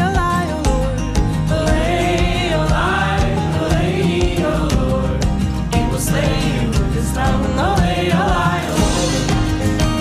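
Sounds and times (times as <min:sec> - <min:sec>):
upbeat folk music: 0:00.0 - 0:10.0.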